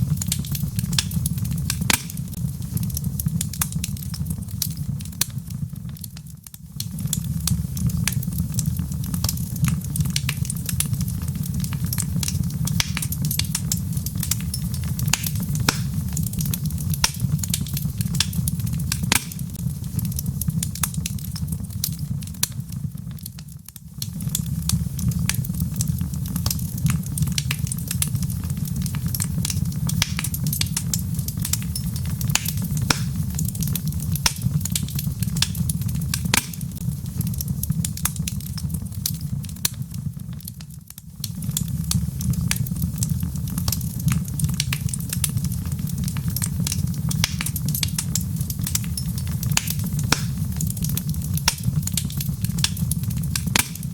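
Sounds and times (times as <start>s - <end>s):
fire roaring: 0.0s - 53.9s
wood crackling and popping: 0.0s - 53.9s.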